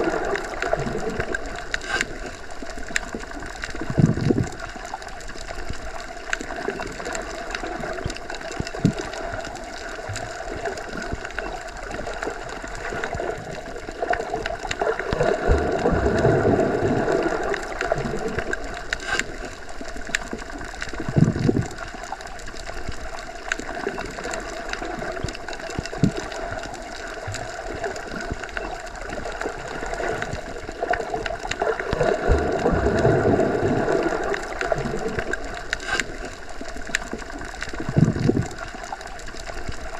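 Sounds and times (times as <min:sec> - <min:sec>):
faint clicks: 0:00.3 - 0:16.3, 0:17.2 - 0:33.1, 0:34.0 - 0:39.9.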